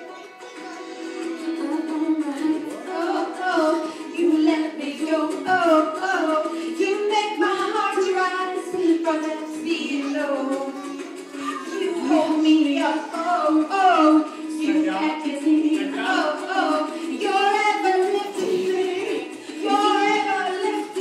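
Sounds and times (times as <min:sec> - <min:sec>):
girl singing: 0:00.0 - 0:21.0.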